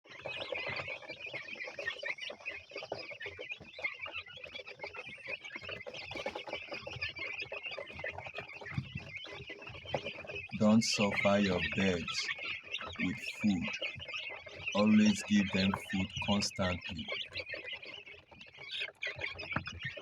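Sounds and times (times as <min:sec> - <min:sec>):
chicks cheeping: 0:00.0 - 0:20.0.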